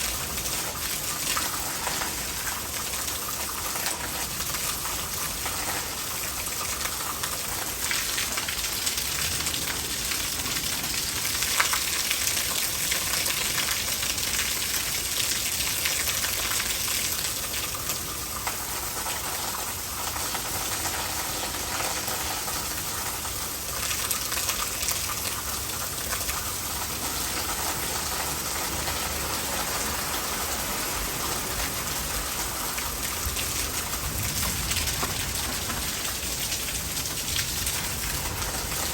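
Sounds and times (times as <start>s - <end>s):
heavy rain pattering: 0.0s - 38.9s
rainwater gushing into gutter: 0.0s - 38.9s.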